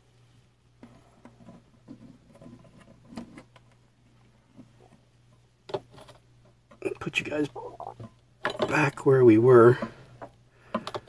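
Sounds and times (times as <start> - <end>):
faint clicks and rustles of handling: 0.0 - 11.0
low steady hum: 0.0 - 11.0.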